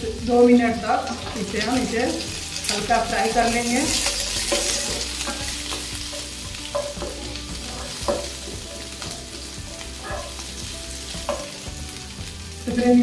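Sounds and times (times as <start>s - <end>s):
vegetables sizzling in oil: 0.0s - 13.0s
wooden spatula scraping a pan: 1.1s - 11.9s.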